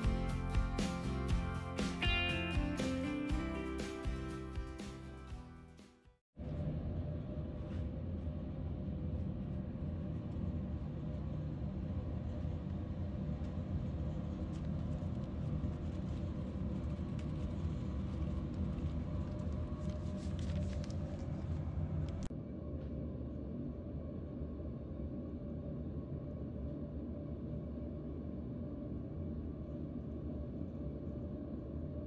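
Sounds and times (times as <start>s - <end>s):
space heater fan rumbling: 0.0s - 4.3s, 6.4s - 32.0s.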